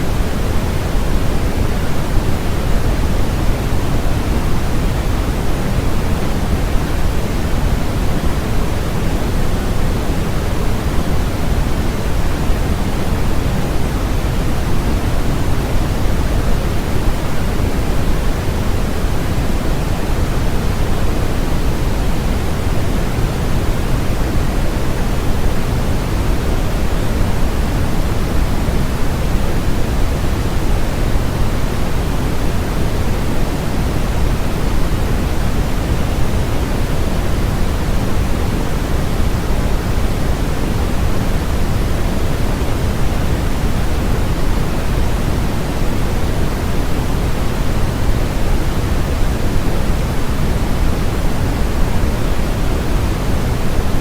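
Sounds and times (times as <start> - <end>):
pink noise: 0.0 - 54.0.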